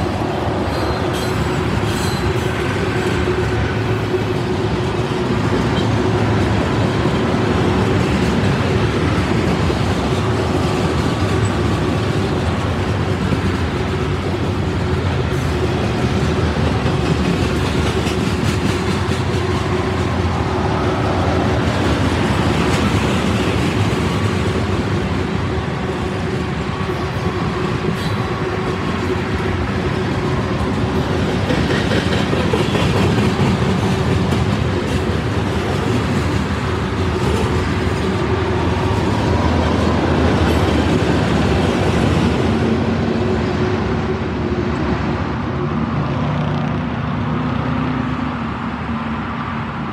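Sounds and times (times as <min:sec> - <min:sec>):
steel wheels clattering on rail: 0:00.0 - 0:44.1
freight train cars rolling past: 0:00.0 - 0:49.9.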